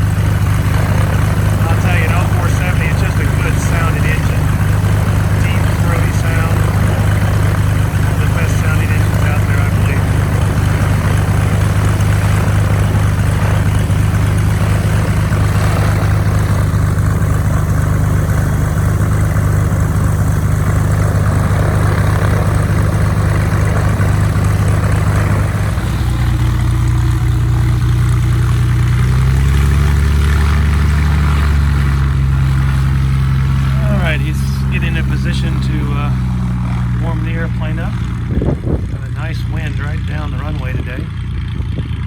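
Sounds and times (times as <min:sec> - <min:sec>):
propeller aircraft engine running: 0:00.0 - 0:42.0.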